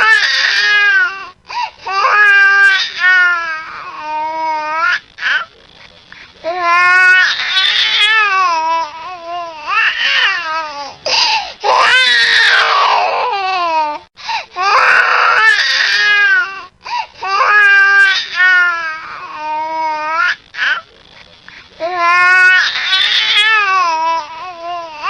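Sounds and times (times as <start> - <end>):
baby crying: 0.0 - 5.5, 6.4 - 14.0, 14.6 - 20.9, 21.8 - 25.0.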